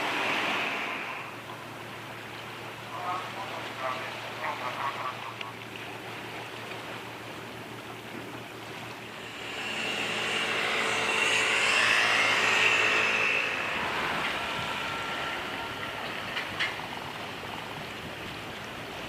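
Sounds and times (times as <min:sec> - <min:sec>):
boat engine running: 0:00.0 - 0:19.0
water rushing and splashing: 0:00.0 - 0:19.0.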